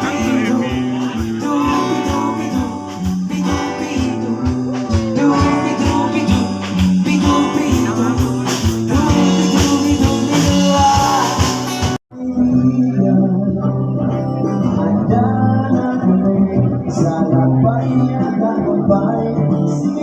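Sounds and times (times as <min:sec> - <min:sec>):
song with guitar and steady beat: 0:00.0 - 0:20.0.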